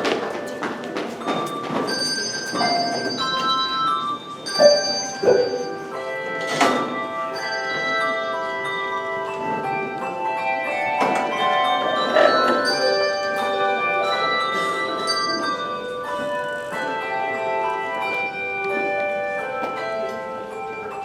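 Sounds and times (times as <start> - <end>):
handbell choir playing: 0.0 - 21.0.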